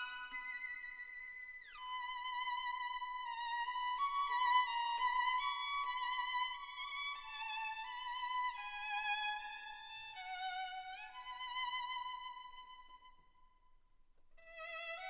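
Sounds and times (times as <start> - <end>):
violin melody with vibrato: 0.0 - 12.7.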